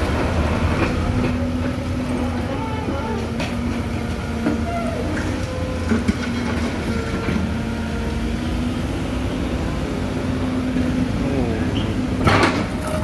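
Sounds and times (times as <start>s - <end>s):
excavator engine drone: 0.0s - 13.0s.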